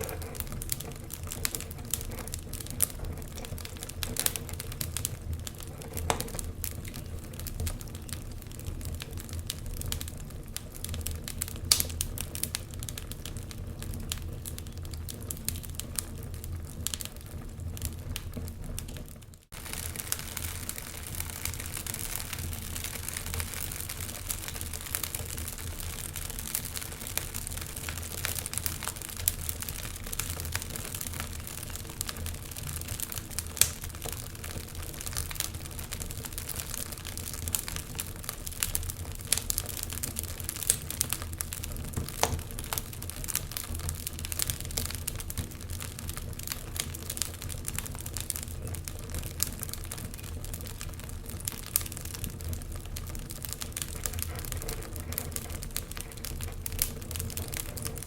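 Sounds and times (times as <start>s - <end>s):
low rush of burning: 0.0s - 58.0s
wood fire crackling and popping: 0.0s - 58.0s.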